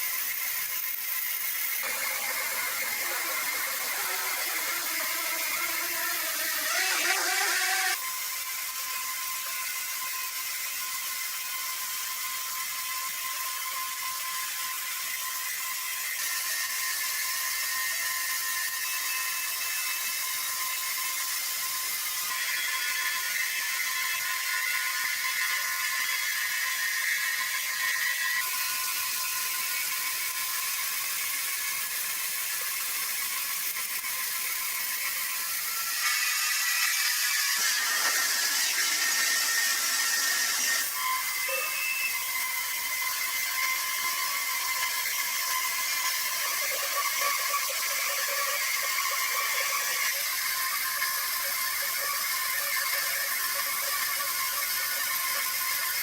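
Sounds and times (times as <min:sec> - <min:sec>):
sawmill machinery whirring: 0:00.0 - 0:56.0.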